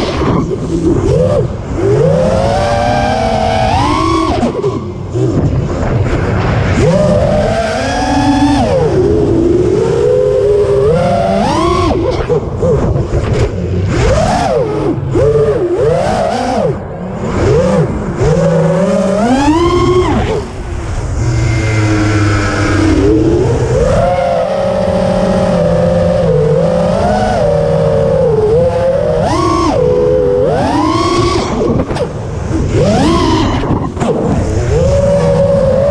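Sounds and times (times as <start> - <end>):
drone motors whining: 0.0 - 35.9
rushing wind noise: 0.0 - 35.9.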